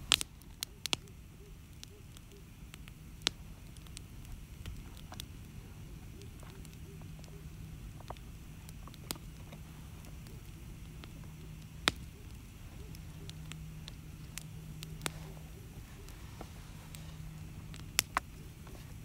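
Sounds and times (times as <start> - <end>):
campfire burning: 0.0 - 19.0
crackles and pops from logs: 0.0 - 19.0
low hum: 0.0 - 19.0.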